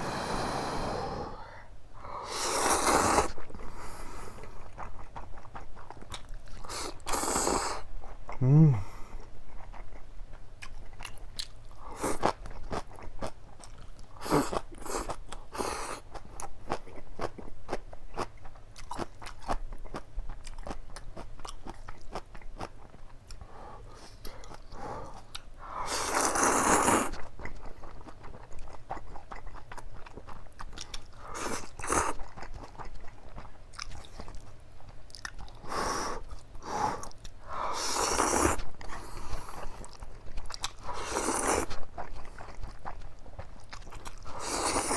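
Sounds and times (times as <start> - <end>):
wet chewing and crunching: 4.4 - 7.3, 9.3 - 23.5, 24.2 - 44.9.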